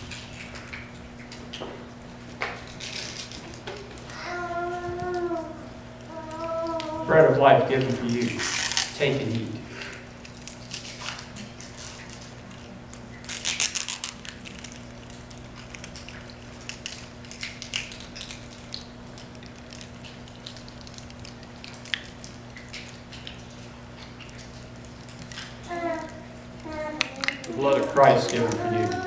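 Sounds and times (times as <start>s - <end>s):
small clicks and rustles: 0.0s - 5.5s, 9.8s - 29.0s
steady low hum: 0.0s - 29.0s.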